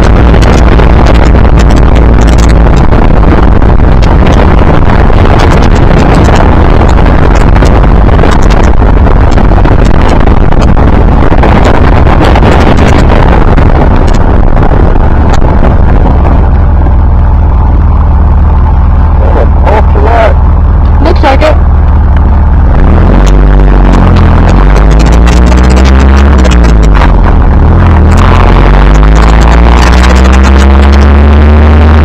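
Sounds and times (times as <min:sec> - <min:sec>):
car engine running: 0:00.0 - 0:32.0
wind buffeting microphone: 0:00.0 - 0:32.0.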